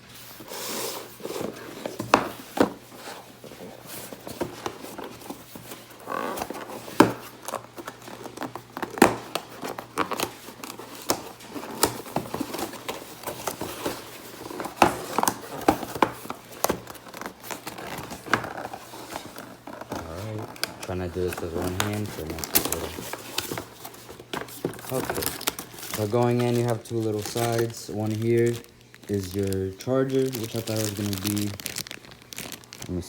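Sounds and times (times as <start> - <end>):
cardboard packaging crinkling: 0.0 - 33.0.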